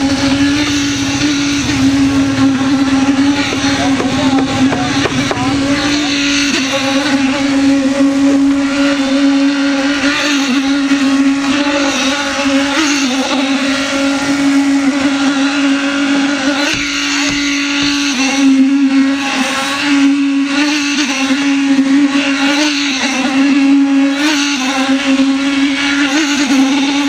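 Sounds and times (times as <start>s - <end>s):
concrete vibrator motor humming: 0.0s - 27.0s
scraping of wet concrete: 0.0s - 27.0s.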